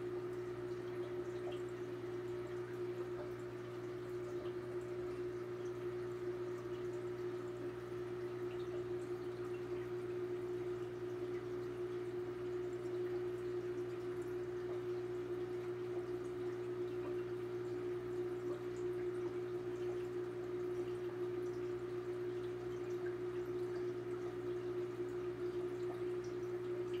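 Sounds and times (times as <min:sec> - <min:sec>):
aquarium equipment humming: 0:00.0 - 0:27.0
faint water trickle: 0:00.0 - 0:27.0.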